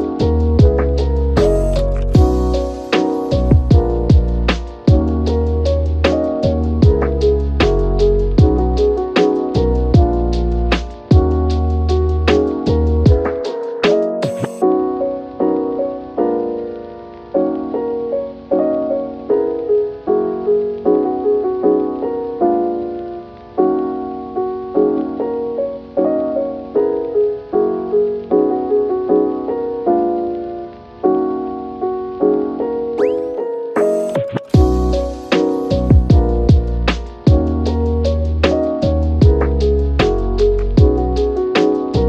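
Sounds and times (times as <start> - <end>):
gentle keyboard music: 0.0 - 42.0.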